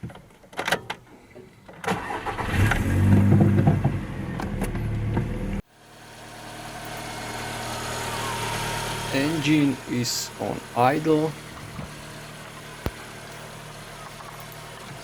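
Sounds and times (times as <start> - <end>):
car engine starting and idling: 1.7 - 15.0.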